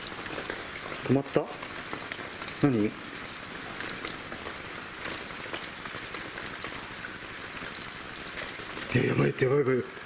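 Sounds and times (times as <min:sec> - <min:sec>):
dripping ticks: 0:00.0 - 0:09.0.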